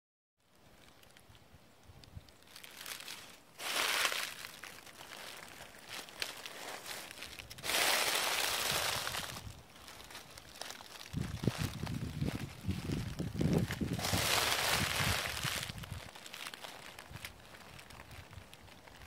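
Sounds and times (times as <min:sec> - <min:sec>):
footsteps crunching dry leaves: 0:02.2 - 0:19.0.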